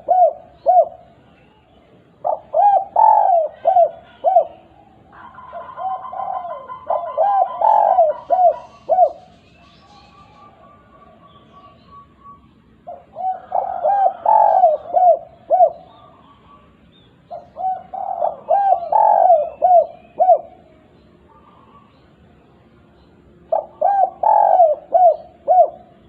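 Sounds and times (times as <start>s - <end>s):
dove cooing: 0.0s - 1.3s, 2.1s - 22.0s, 23.4s - 26.0s
small birds chirping: 0.0s - 26.0s.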